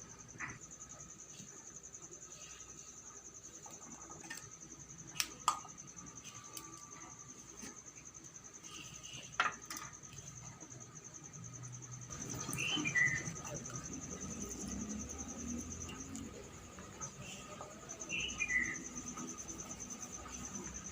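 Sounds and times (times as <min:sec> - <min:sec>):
high-pitched insect trill: 0:00.0 - 0:20.9.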